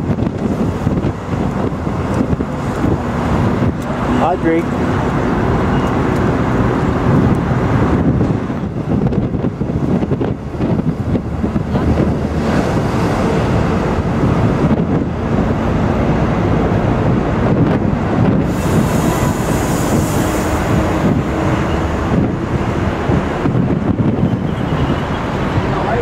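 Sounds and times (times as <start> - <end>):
bus rumbling: 0.0 - 26.0
street traffic: 0.0 - 26.0
wind rushing over microphone: 0.0 - 26.0.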